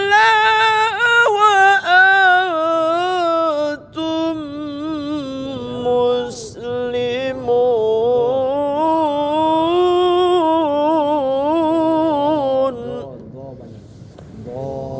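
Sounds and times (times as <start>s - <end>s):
solo voice chanting recitation: 0.0s - 14.9s.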